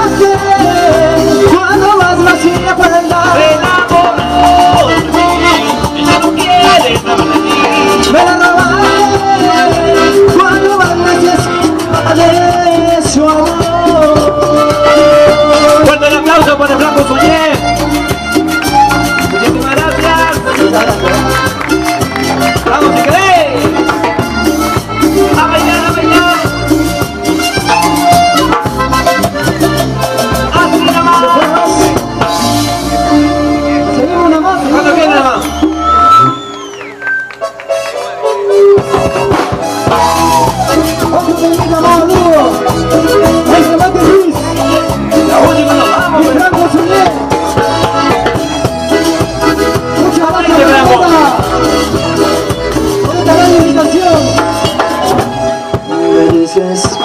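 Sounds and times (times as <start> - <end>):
live cumbia band playing: 0.0 - 57.0.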